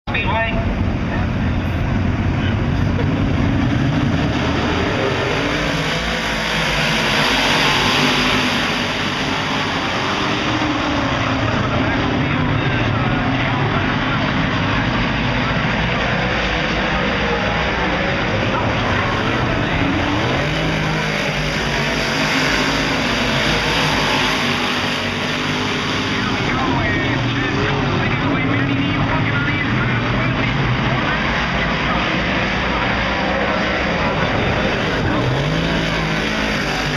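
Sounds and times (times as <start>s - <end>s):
race car engines din: 0.0s - 36.9s.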